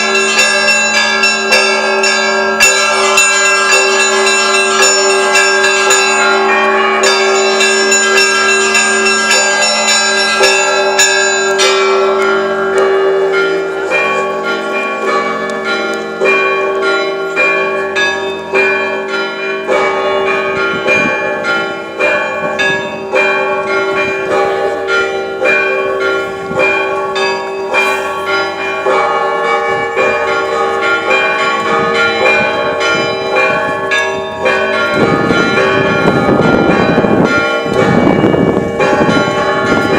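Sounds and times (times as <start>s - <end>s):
church bells pealing: 0.0s - 39.9s
low bell tone: 0.0s - 39.9s.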